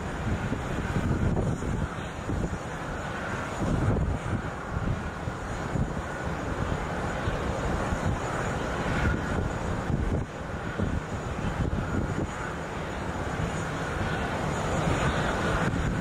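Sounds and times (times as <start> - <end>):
distant jet engines rumbling: 0.0 - 16.0
wind buffeting microphone: 0.0 - 16.0.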